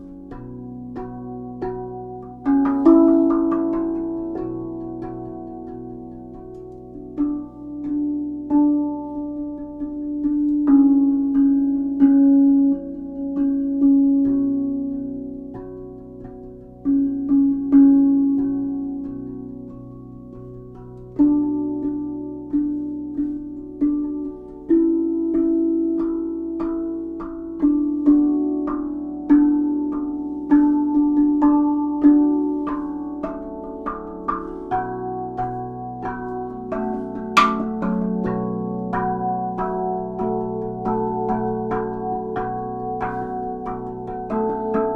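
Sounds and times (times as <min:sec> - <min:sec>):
steel tongue drum melody: 0:00.0 - 0:44.9.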